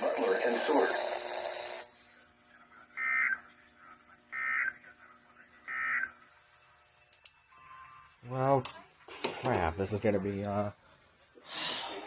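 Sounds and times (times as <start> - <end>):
faint radio hum: 0.0 - 12.0.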